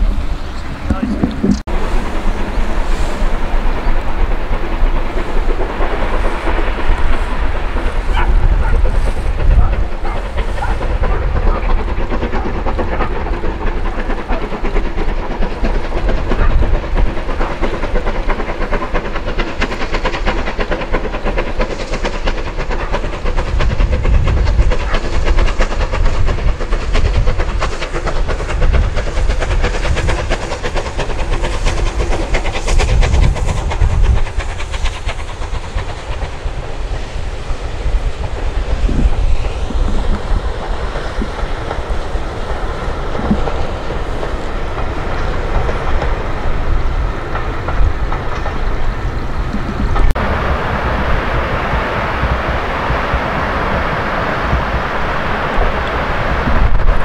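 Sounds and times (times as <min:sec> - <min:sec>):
coach wheels clattering on rails: 0:00.0 - 0:57.0
hissing steam: 0:00.0 - 0:57.0
steam locomotive exhaust beating: 0:00.0 - 0:57.0.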